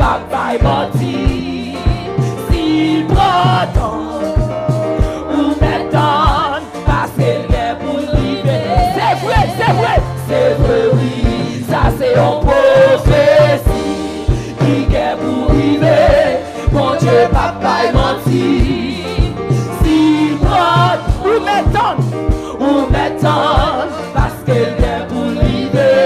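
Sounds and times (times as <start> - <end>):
backing singers: 0.0 - 26.0
bass: 0.0 - 26.0
drum beat: 0.0 - 26.0
woman singing: 0.0 - 26.0.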